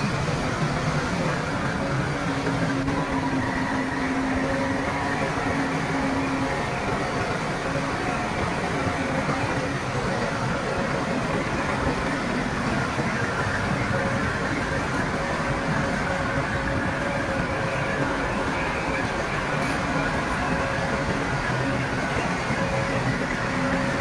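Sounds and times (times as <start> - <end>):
diesel machinery engine drone: 0.0 - 24.0.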